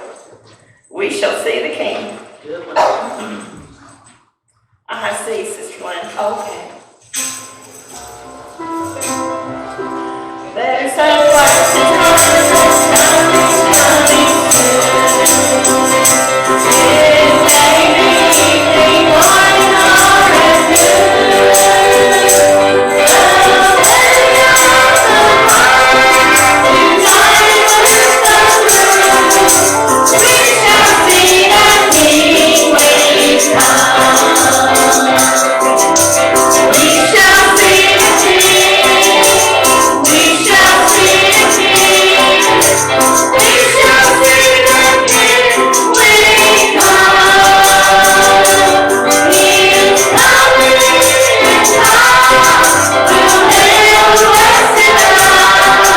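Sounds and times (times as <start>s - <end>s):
accompanying music: 7.1s - 55.9s
congregation singing a hymn: 10.5s - 55.9s.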